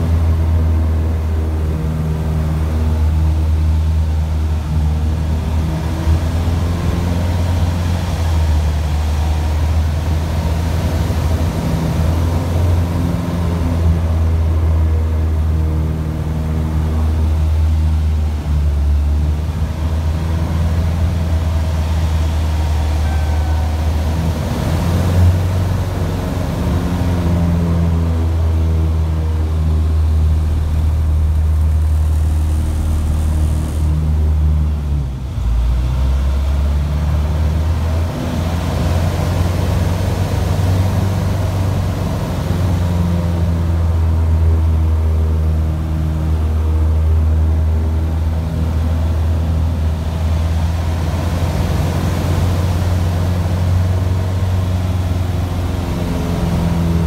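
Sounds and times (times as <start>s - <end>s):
propeller plane engine drone: 0.0s - 57.0s.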